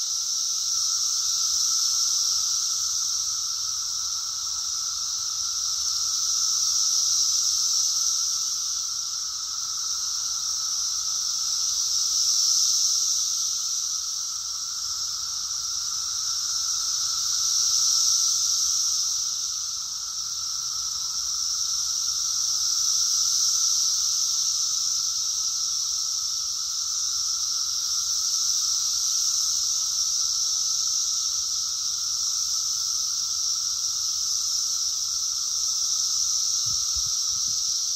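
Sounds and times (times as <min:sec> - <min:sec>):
cicadas buzzing: 0:00.0 - 0:37.9.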